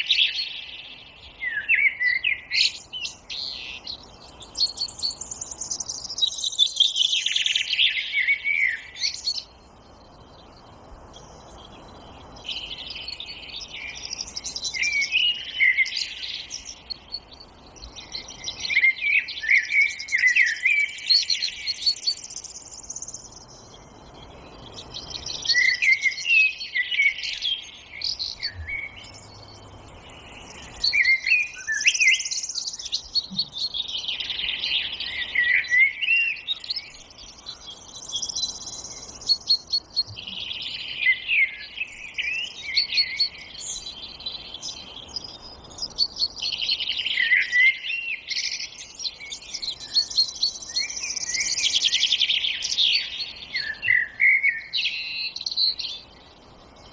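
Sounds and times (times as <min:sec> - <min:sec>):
faint steady background hiss: 0:00.0 - 0:56.9
songbirds warbling chirps: 0:00.0 - 0:56.9.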